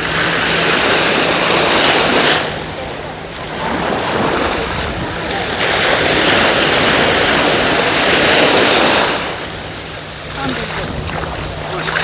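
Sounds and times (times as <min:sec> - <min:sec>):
ocean surf washing in: 0:00.0 - 0:12.0.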